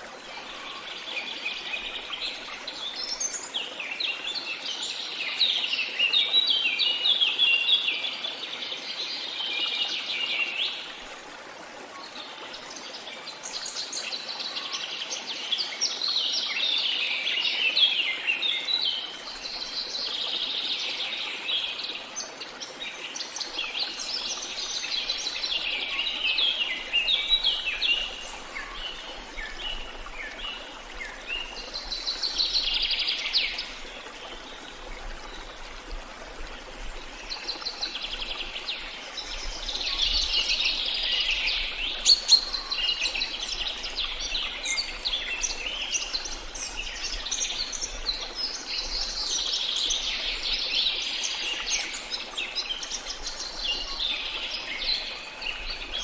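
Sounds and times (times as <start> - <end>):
running water hiss: 0.0 - 56.0.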